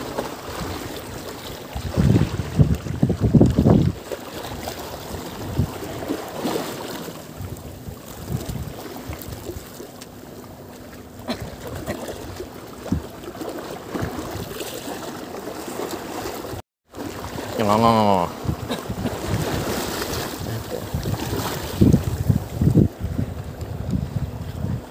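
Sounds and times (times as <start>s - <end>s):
water noise: 0.0s - 24.9s
wind: 0.0s - 24.9s.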